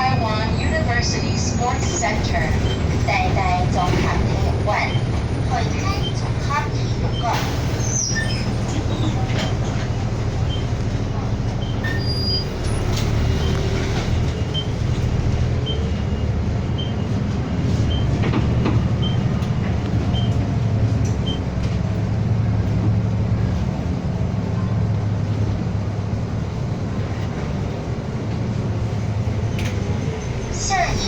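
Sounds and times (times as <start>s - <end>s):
bus engine and road drone: 0.0s - 31.0s.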